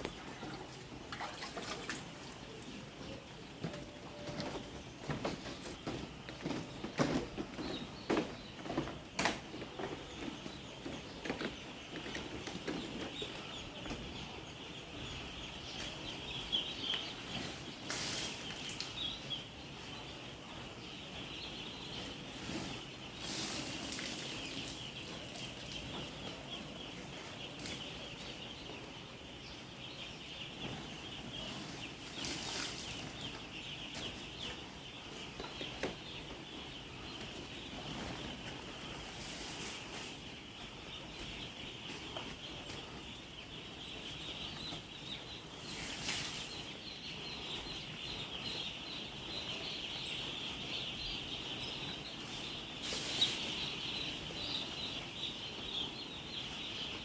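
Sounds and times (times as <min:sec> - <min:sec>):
chickens peeping and clucking: 0:00.0 - 0:57.0.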